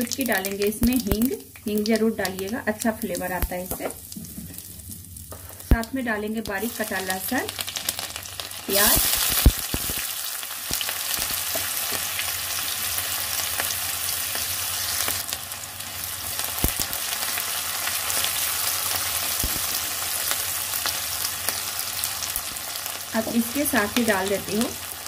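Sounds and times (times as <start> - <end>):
onion and garlic sizzling in oil: 0.0 - 25.0.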